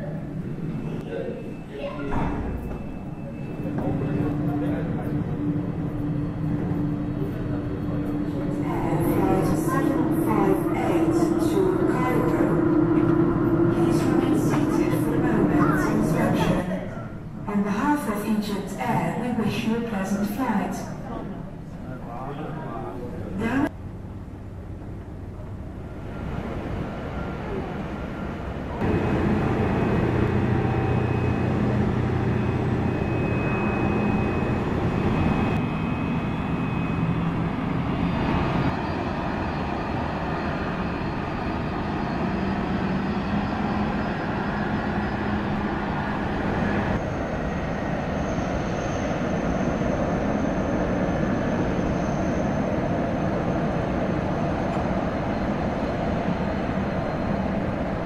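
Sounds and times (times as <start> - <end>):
jet engines rumbling with high whine: 0.0 - 58.0.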